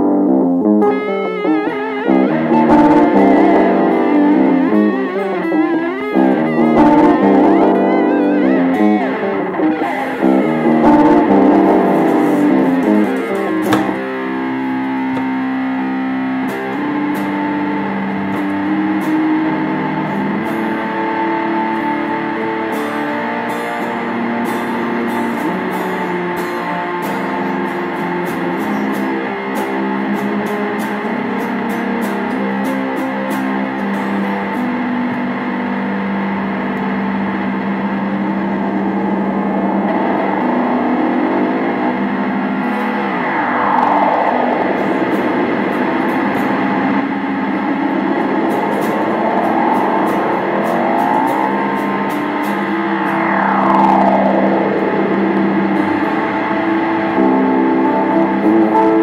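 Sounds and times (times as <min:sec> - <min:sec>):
distorted electric guitar droning: 0:00.0 - 0:59.0
sharp guitar strike: 0:00.0 - 0:59.0.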